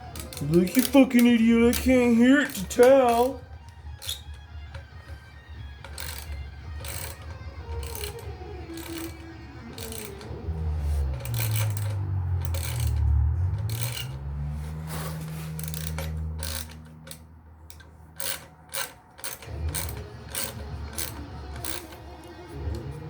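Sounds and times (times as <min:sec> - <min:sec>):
hand tool rasping: 0:00.0 - 0:23.0
low radio music: 0:00.0 - 0:23.0.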